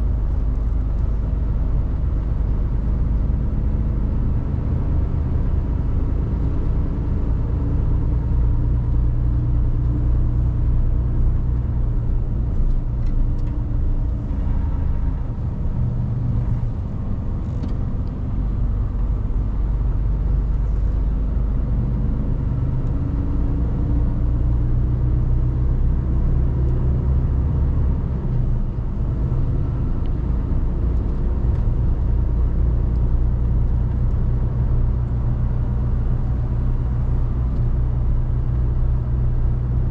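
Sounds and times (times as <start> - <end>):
diesel truck engine rumble: 0.0 - 39.9.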